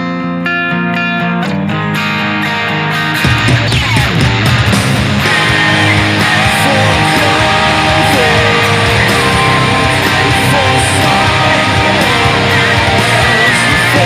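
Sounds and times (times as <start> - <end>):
distorted electric guitar: 0.0 - 14.0
heavy metal band track: 0.0 - 14.0.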